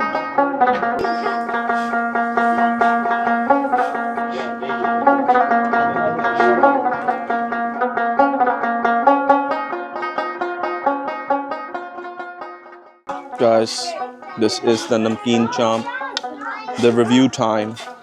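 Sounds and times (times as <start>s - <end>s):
fast picked banjo: 0.0s - 18.0s.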